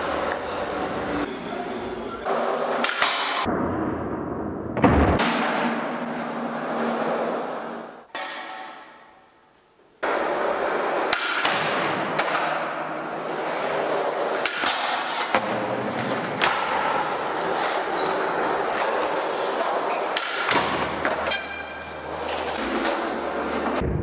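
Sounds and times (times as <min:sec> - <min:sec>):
skateboard wheels rolling on concrete: 0:00.0 - 0:03.5, 0:05.4 - 0:09.3, 0:09.9 - 0:23.8.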